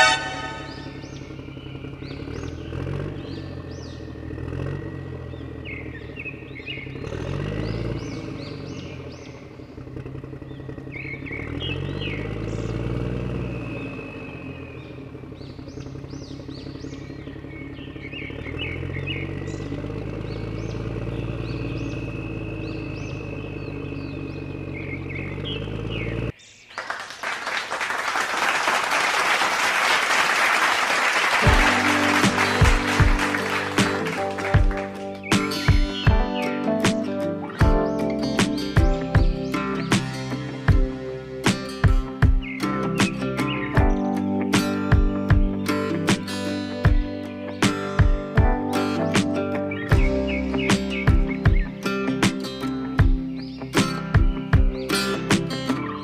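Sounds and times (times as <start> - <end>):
heavy engine revving: 0.0 - 26.4, 28.1 - 56.0
birds chirping: 0.0 - 56.0.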